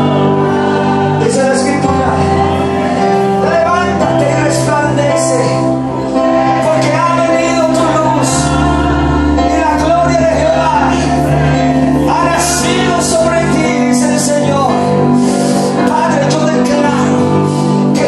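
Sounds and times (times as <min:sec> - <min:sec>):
held instrumental chords: 0:00.0 - 0:18.0
worship song singing: 0:00.0 - 0:18.0.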